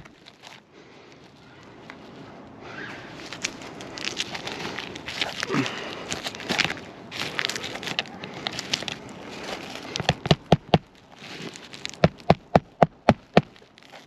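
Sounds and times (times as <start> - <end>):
roof shingle crackling: 0.0 - 0.6, 3.2 - 14.0.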